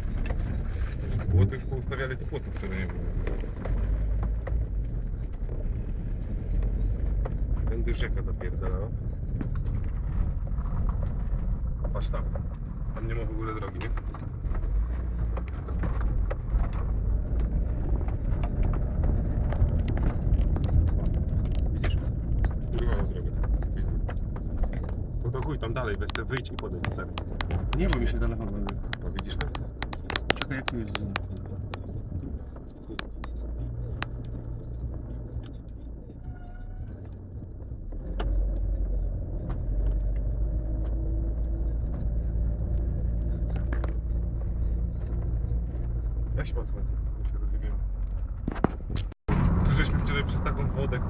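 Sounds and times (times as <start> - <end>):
road noise rumble: 0.0 - 51.0.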